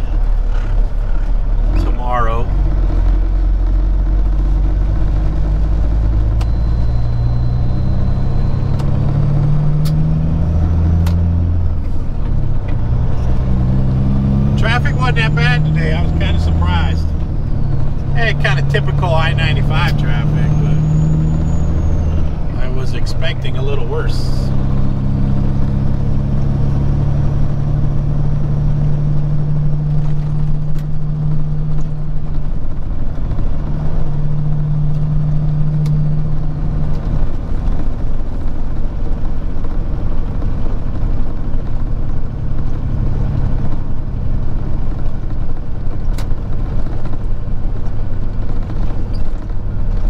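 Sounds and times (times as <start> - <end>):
road rumble: 0.0 - 50.0
truck engine drone: 0.0 - 50.0.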